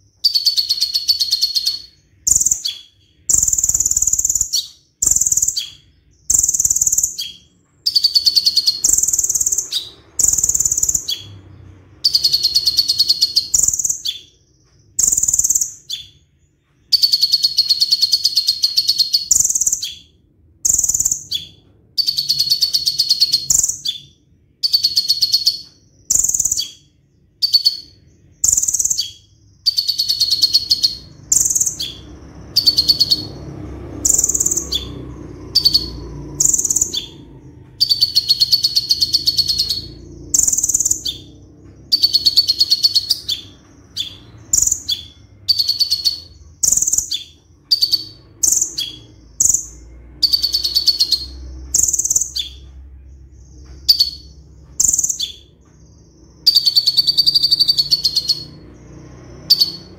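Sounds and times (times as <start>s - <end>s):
bird singing buzzing trills: 0.0s - 16.3s, 16.9s - 59.9s.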